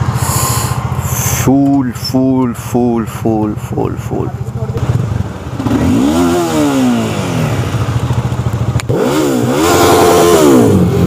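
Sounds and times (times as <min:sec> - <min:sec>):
motorcycle engines idling: 0:00.0 - 0:11.0
motorcycle revving: 0:00.0 - 0:11.0.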